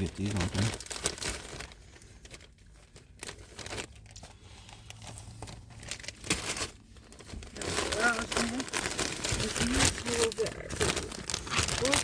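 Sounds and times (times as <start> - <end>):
snack packaging crinkling: 0.0 - 12.0.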